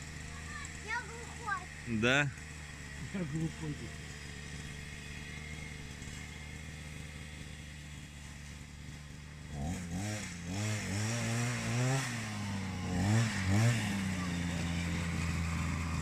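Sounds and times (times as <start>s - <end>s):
petrol engine idling and revving: 0.0s - 16.0s.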